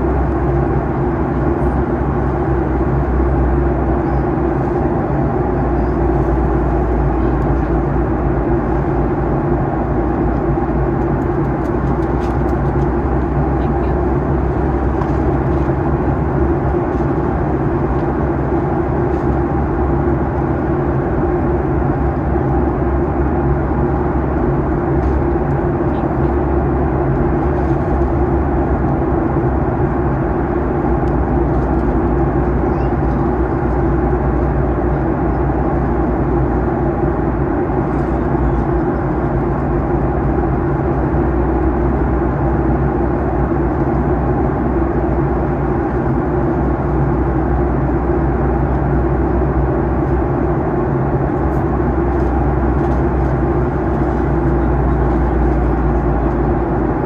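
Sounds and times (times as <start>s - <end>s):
jet engines humming: 0.0s - 57.0s
rush of cabin air: 0.0s - 57.0s.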